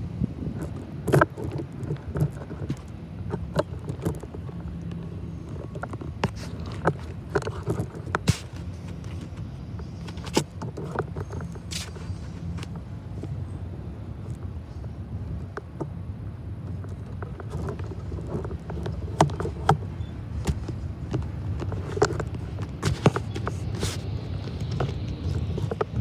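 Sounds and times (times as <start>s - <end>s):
sharp clicks and knocks: 0.5s - 13.4s, 16.6s - 26.0s.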